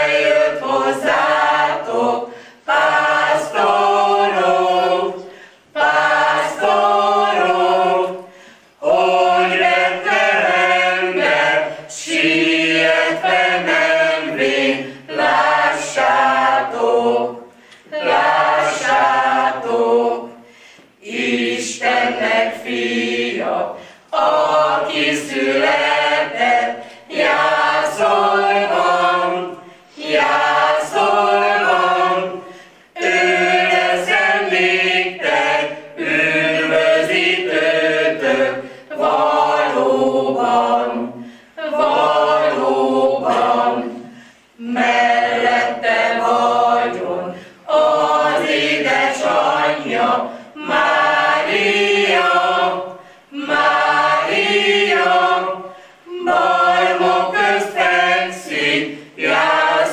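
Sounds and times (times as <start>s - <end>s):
choir singing unaccompanied: 0.0s - 59.9s.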